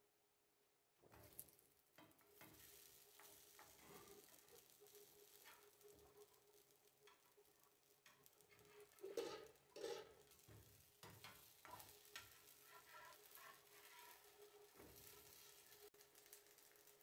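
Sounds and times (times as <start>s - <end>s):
patties frying in a pan: 1.0s - 17.0s
spatula scraping a pan: 2.0s - 16.4s.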